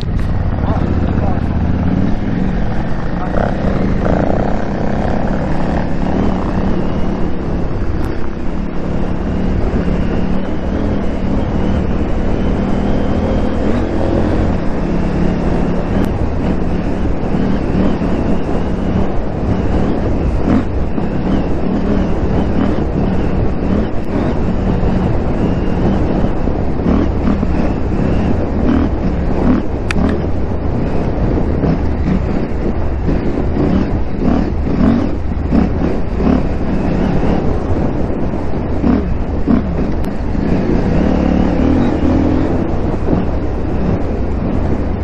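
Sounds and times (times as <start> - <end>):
motorcycle engine running: 0.0 - 45.0
rushing noise: 0.0 - 45.0.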